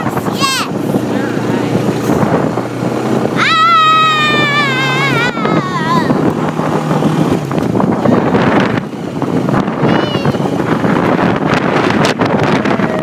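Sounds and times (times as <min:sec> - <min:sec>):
small vehicle engine running: 0:00.0 - 0:13.0
wind noise: 0:00.0 - 0:13.0.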